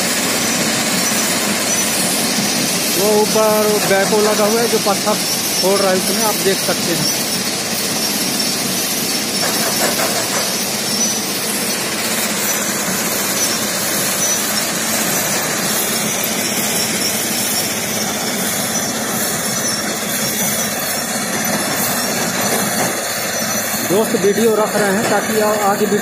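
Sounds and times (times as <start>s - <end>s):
stone crusher and conveyor running: 0.0s - 26.0s.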